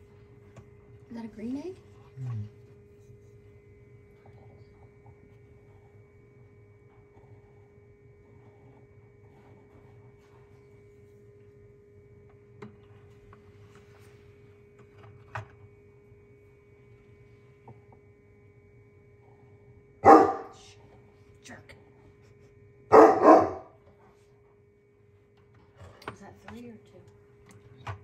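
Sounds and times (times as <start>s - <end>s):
incubator electrical hum: 0.0s - 28.0s.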